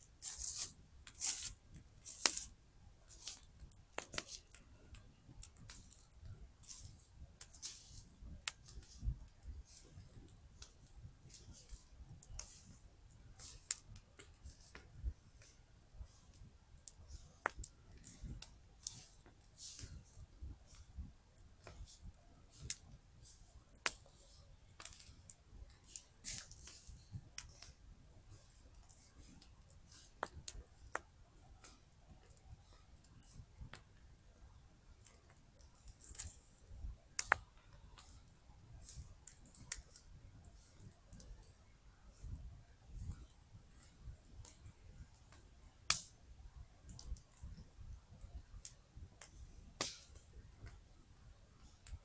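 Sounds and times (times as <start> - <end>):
campfire wood crackling and popping: 0.0 - 52.0
low rumble of fire: 0.0 - 52.0.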